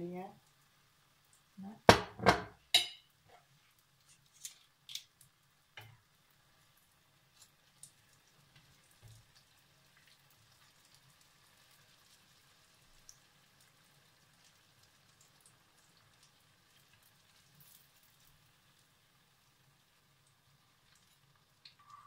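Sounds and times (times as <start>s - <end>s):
batter crackling in frying oil: 0.0s - 1.9s, 2.6s - 22.0s.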